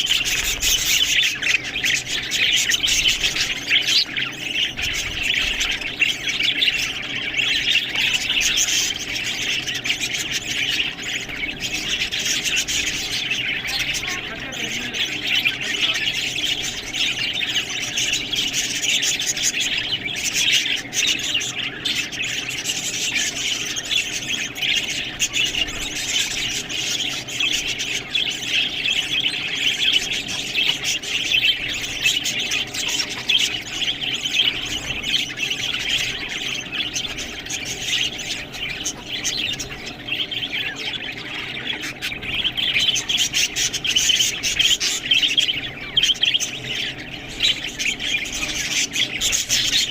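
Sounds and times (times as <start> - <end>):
budgerigars chattering and squawking: 0.0 - 49.9.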